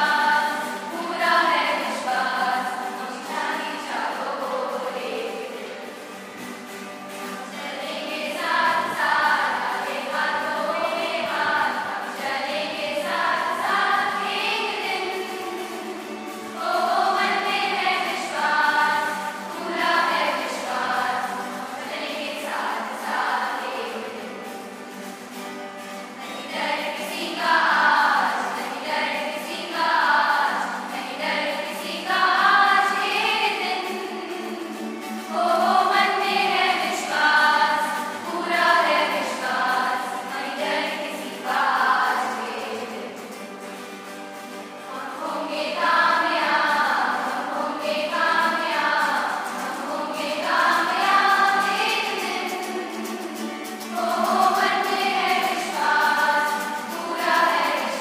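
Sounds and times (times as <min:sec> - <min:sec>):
girls choir singing: 0:00.0 - 0:25.0, 0:25.9 - 0:58.0.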